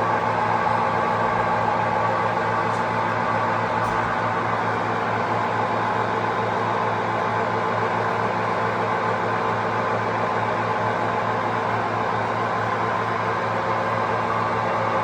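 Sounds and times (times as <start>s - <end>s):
mechanical hum with low drone: 0.0s - 15.0s.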